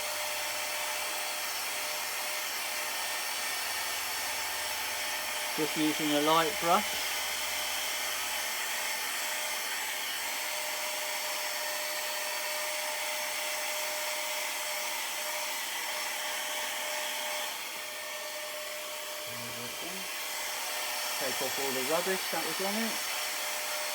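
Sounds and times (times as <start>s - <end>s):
handheld blower whirring: 0.0s - 23.9s.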